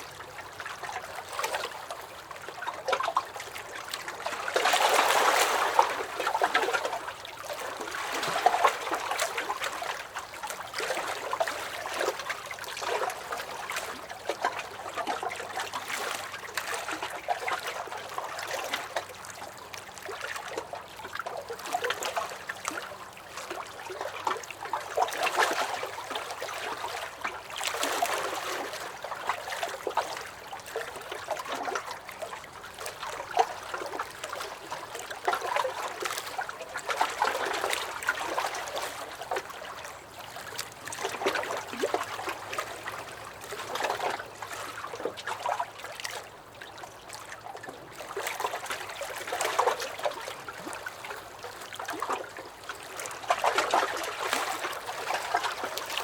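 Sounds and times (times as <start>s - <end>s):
waves lapping against a dock: 0.0s - 56.0s.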